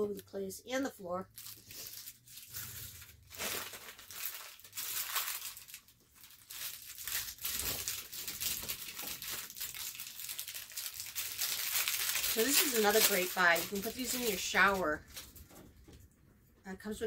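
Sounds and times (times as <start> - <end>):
plastic packaging crinkling: 1.2 - 15.9.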